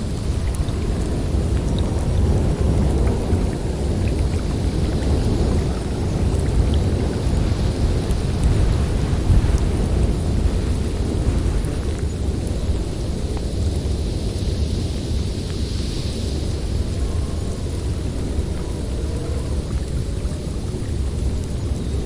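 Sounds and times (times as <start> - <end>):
wind blowing with low rumble: 0.0 - 22.0.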